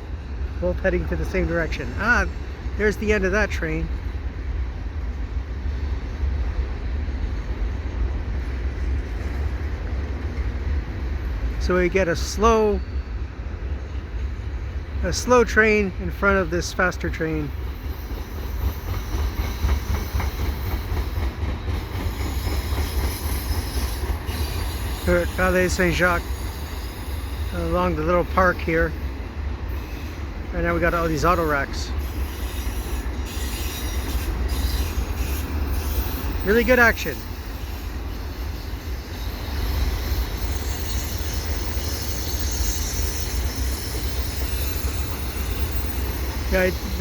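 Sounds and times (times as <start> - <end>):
freight cars rumbling on rails: 0.0 - 47.0.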